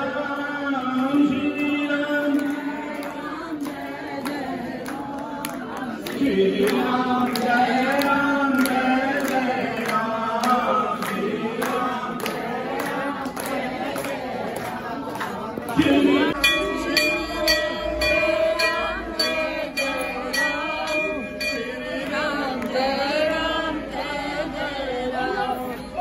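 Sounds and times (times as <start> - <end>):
group chanting: 0.0 - 26.0.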